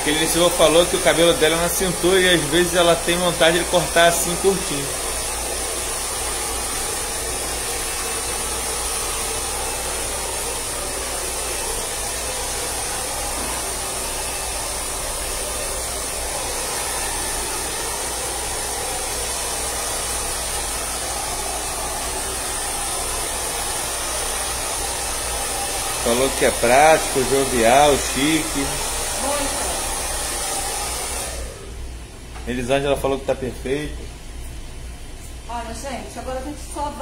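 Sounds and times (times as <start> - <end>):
hair dryer blowing: 0.0 - 31.8.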